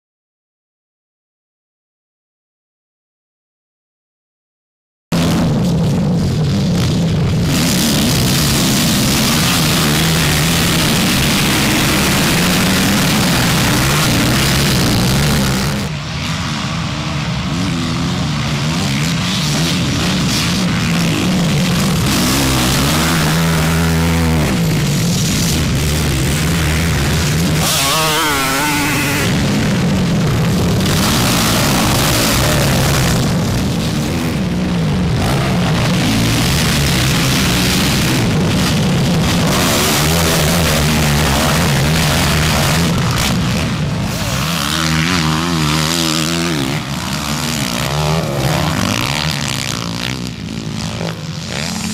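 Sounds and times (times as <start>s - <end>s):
dirt bike engines revving: 5.1s - 51.9s.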